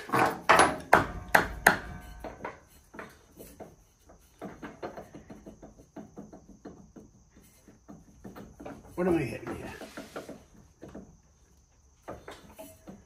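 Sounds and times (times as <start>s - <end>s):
metal parts knocking and rattling: 0.0s - 11.2s.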